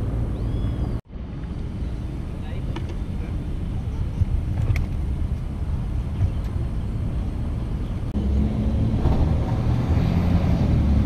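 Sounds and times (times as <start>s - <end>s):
street traffic rumble: 0.0s - 11.0s
vehicle engine: 0.0s - 11.0s.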